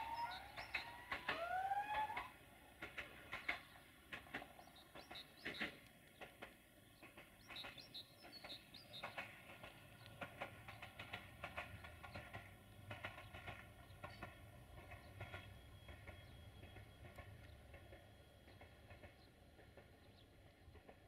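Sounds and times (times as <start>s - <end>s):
small birds chirping: 0.0s - 1.1s, 3.2s - 20.9s.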